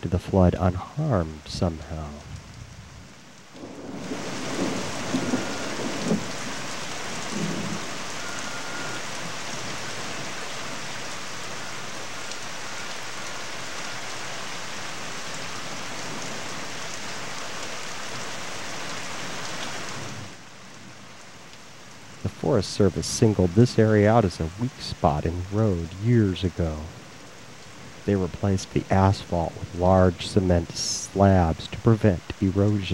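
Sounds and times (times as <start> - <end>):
rain falling: 0.0 - 32.9.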